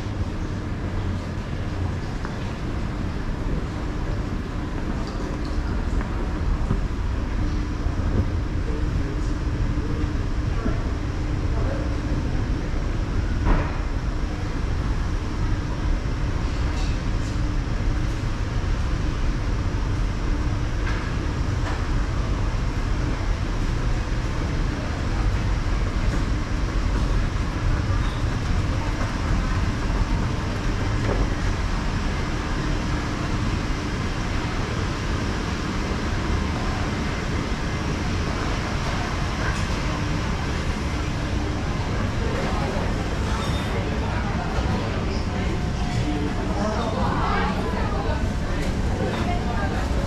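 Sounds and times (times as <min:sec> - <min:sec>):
escalator rumbling hum: 0:00.0 - 0:50.0
station ambience: 0:00.0 - 0:50.0.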